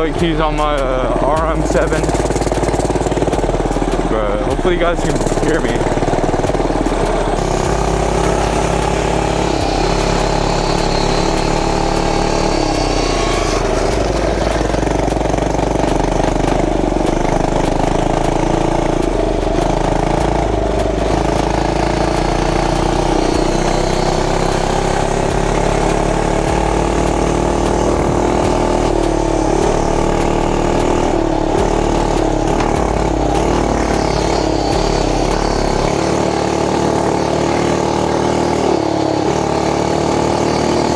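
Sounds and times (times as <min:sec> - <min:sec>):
mini bike engine running: 0:00.0 - 0:40.9.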